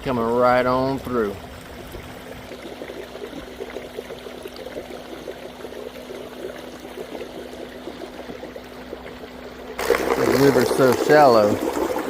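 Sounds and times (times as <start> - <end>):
water trickling along a hull: 0.1 - 12.0.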